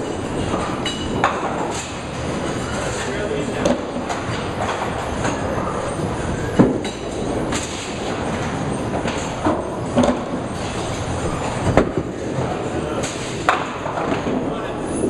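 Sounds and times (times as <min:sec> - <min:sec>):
bowling balls rolling on lanes: 0:00.0 - 0:15.0
bowling pins clacking: 0:00.0 - 0:15.0.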